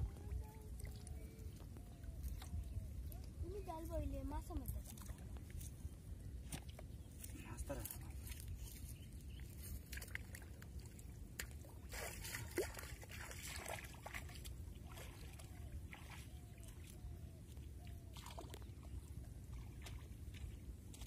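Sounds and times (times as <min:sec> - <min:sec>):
shallow water splashing: 0:00.0 - 0:21.0.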